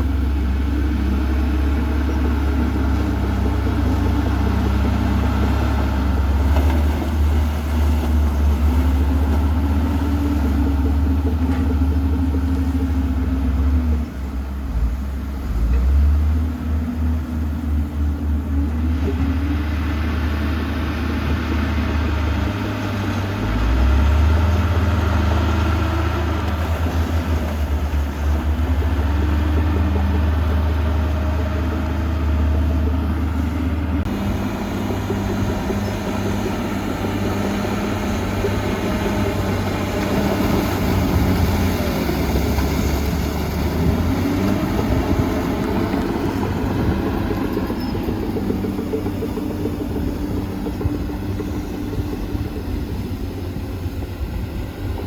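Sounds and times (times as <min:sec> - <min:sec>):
heavy diesel machinery engine: 0:00.0 - 0:55.0.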